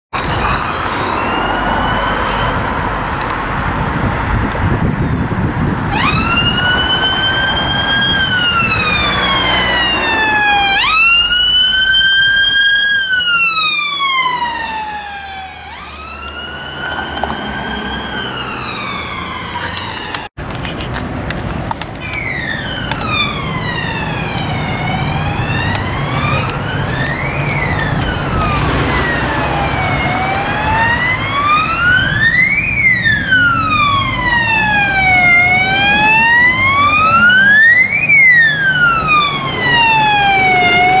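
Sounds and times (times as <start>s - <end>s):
engine and road noise: 0.1s - 41.0s
ambulance siren wailing: 0.2s - 2.9s, 5.9s - 20.3s, 22.0s - 41.0s.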